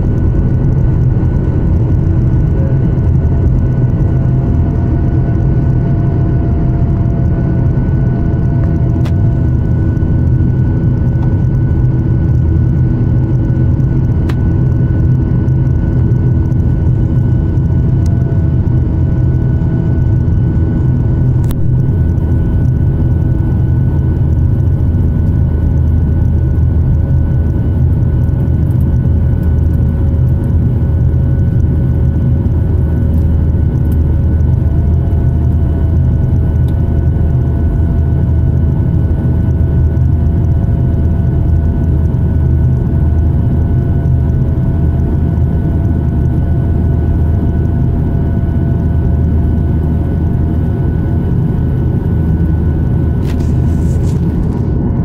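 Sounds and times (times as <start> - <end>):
jet engine rumble and whine: 0.0 - 55.0.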